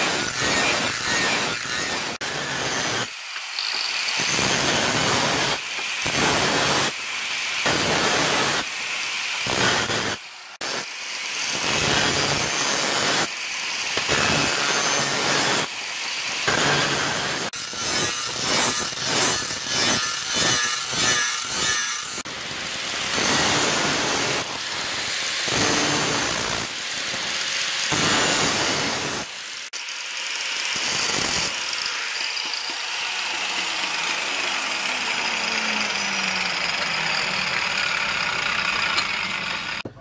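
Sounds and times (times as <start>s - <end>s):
angle grinder rasping on steel: 0.0s - 39.8s
grinder whine: 0.0s - 40.0s.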